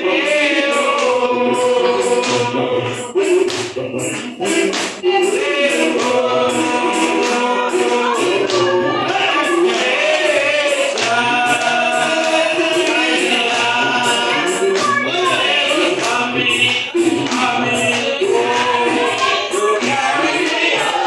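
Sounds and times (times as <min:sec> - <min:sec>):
congregation singing a spiritual: 0:00.0 - 0:21.0
sharp percussive strikes: 0:00.0 - 0:21.0.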